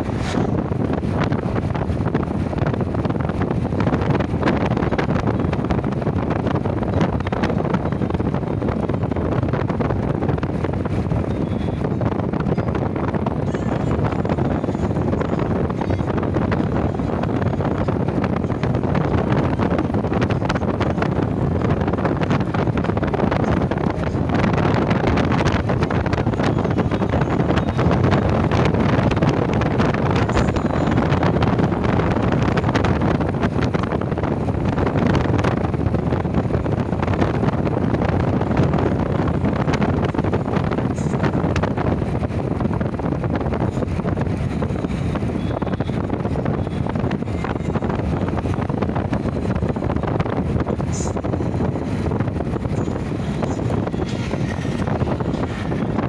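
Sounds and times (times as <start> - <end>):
vehicle road noise: 0.0 - 56.0
wind buffeting microphone: 0.0 - 56.0.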